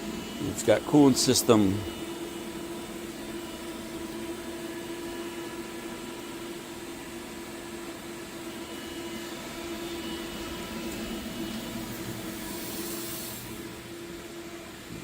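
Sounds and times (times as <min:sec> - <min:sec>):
machining center humming: 0:00.0 - 0:15.0.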